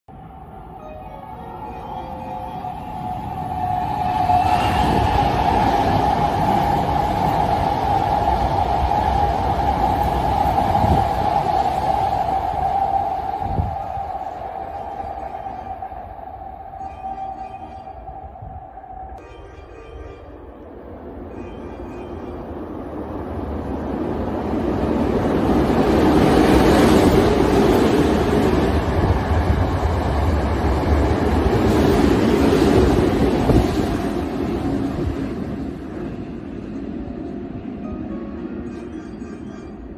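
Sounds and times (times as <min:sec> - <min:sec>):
electric train whine: 0:00.1 - 0:39.9.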